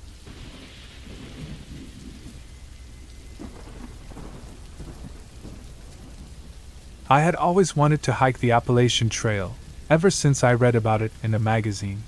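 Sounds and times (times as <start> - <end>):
constant low rumble: 0.0 - 12.0
steady rain: 0.0 - 12.0.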